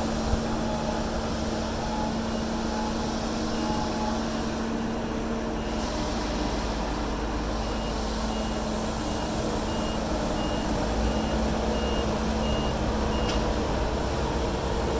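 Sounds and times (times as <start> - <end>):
heavy machine engine rumble: 0.0 - 14.9
reversing alarm beeping: 0.1 - 5.9, 7.5 - 14.6.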